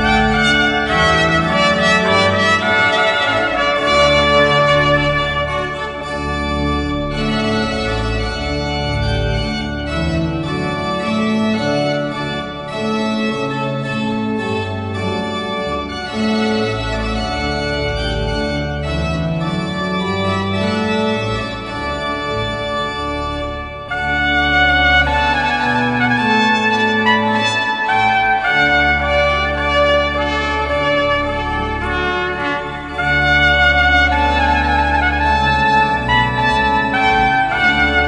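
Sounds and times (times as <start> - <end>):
brass: 0.0 - 38.0
organ music: 0.0 - 38.0.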